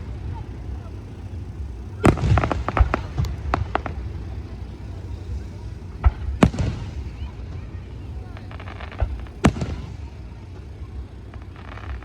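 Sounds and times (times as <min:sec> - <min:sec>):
crackling firework pops: 0:00.0 - 0:12.0
fireworks bangs: 0:00.0 - 0:12.0.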